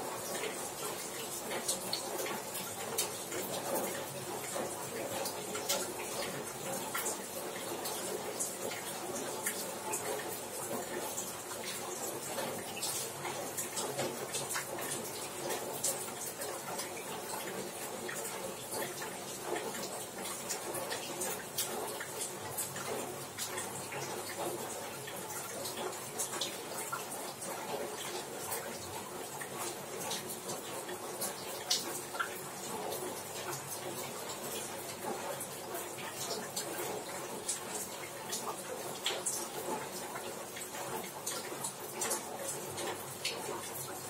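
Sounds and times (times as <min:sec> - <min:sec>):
rain pattering on a roof: 0:00.0 - 0:44.0.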